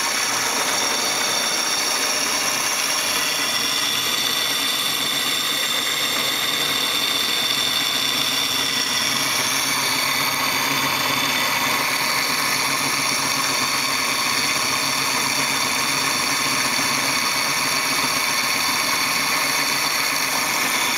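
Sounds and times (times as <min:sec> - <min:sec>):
metal lathe humming and whining: 0:00.0 - 0:20.9.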